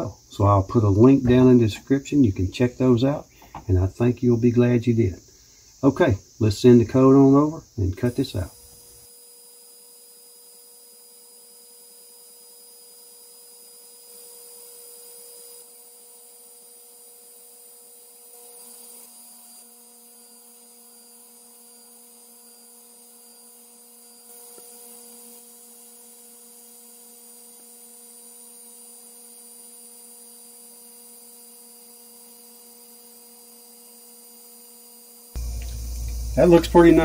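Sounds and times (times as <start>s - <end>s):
laser engraver fans humming: 7.1s - 37.0s.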